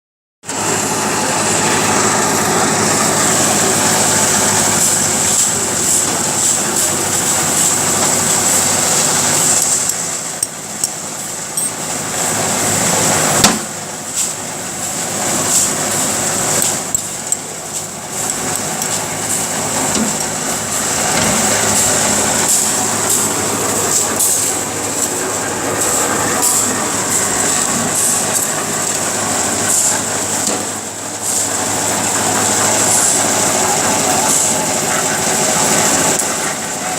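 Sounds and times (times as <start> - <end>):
concrete mixer running: 0.4 - 36.9.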